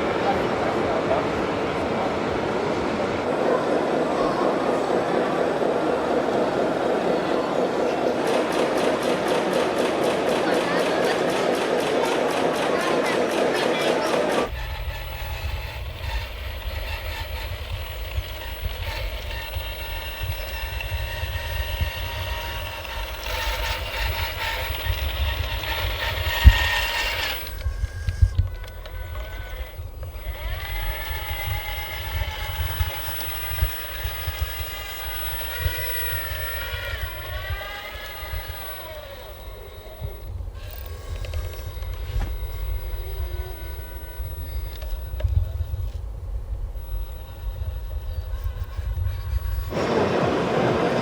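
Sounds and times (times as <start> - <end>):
model truck motors whining: 0.0 - 51.0.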